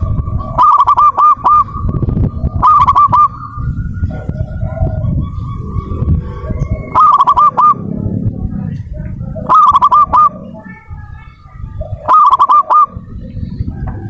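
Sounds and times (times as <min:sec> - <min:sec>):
dove cooing: 0:00.0 - 0:14.0
low background rumble: 0:00.0 - 0:14.0.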